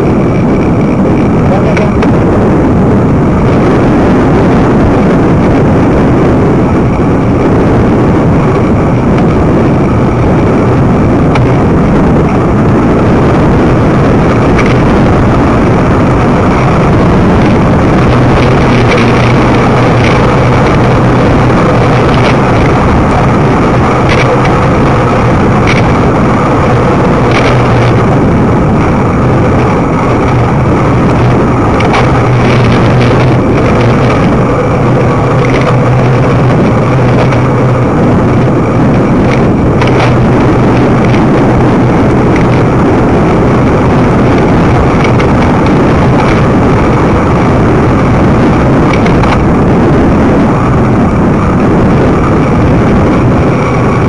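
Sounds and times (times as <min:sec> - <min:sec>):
tyre and road noise: 0:00.0 - 0:54.0
wind rushing over microphone: 0:00.0 - 0:54.0.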